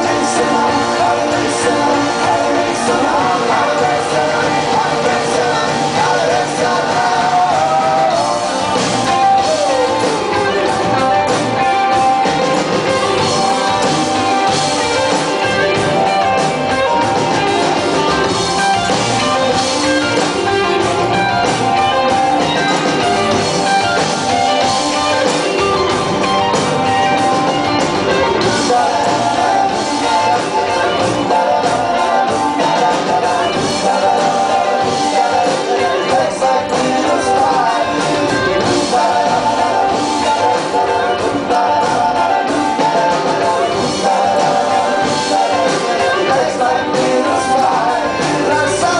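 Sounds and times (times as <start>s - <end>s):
person singing: 0.0s - 25.6s, 27.7s - 48.9s
bass: 0.0s - 48.9s
drums: 0.0s - 48.9s
electric guitars: 0.0s - 48.9s.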